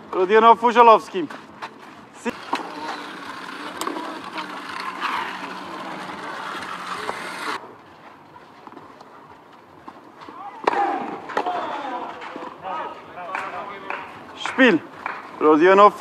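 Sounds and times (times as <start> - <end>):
outdoor ambience: 0.0 - 16.0.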